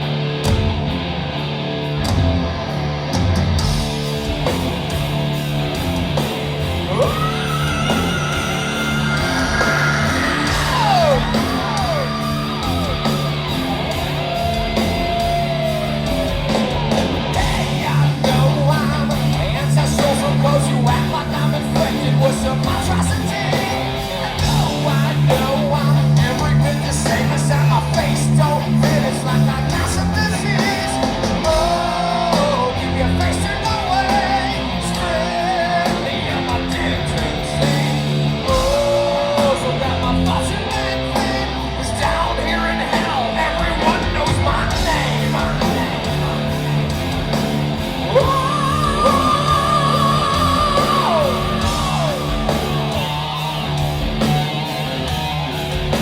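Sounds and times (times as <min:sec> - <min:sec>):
heavy metal band playing: 0:00.0 - 0:56.0.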